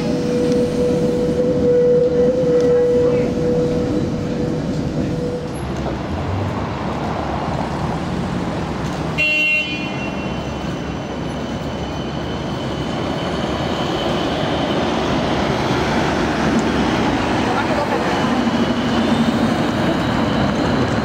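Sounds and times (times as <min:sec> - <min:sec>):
street traffic noise: 0:00.0 - 0:21.0
tram cabin running noise: 0:00.0 - 0:21.0.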